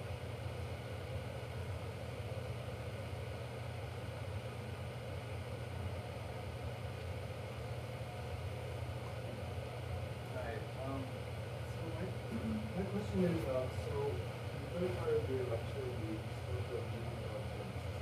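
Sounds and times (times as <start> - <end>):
low room hum with hiss: 0.0 - 18.0.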